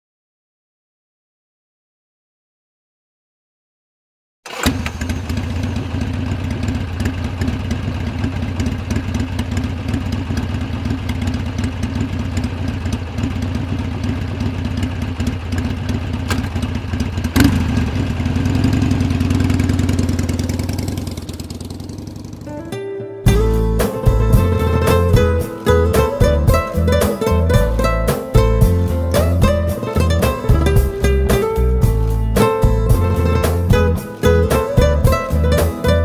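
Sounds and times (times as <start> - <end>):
motorcycle engine idling: 4.5 - 22.7, 23.3 - 35.6.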